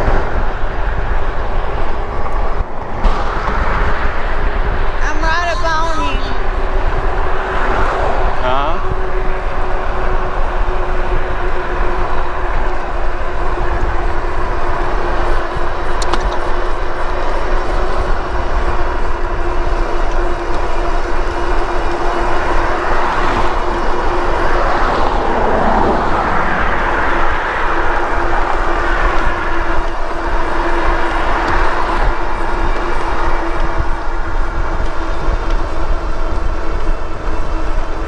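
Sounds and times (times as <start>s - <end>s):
passing vehicle: 0.0s - 38.0s
wind buffeting microphone: 0.0s - 38.0s
electric bike motor whine: 6.3s - 38.0s.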